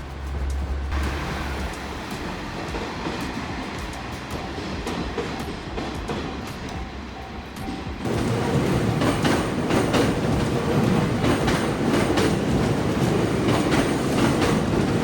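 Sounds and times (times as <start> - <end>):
train wheel and rail noise: 0.0 - 15.0
wheels clicking over rail joints: 0.0 - 15.0.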